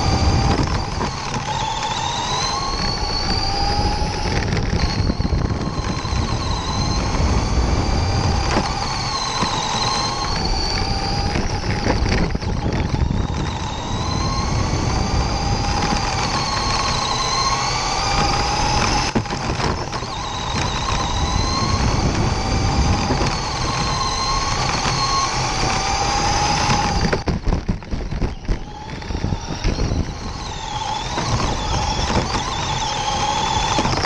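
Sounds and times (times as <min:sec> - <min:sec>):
rc car motor whining: 0:00.0 - 0:34.0
rumble from dirt track: 0:00.0 - 0:34.0.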